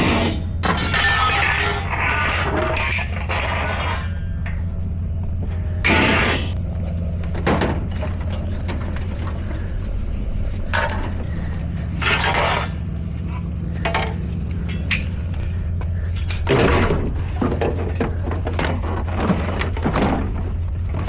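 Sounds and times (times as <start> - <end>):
scrap knocking and scraping: 0.0 - 4.6, 7.1 - 21.0
steady low hum: 0.0 - 21.0.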